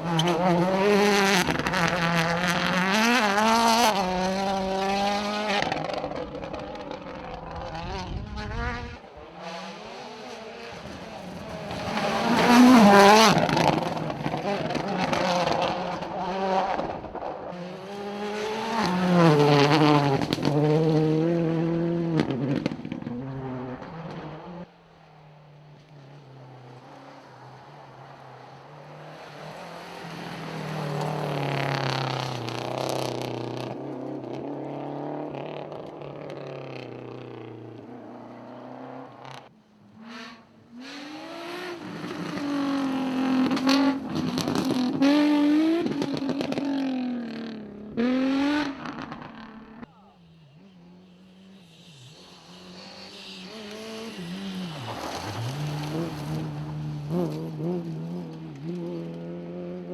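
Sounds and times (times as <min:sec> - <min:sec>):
rally cars passing at speed: 0:00.0 - 0:59.9.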